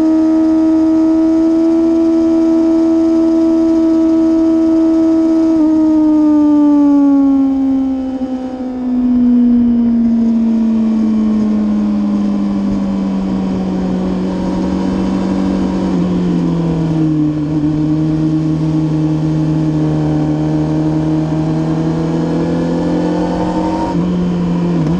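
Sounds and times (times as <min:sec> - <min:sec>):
motorcycle engine slowing: 0:00.0 - 0:24.9.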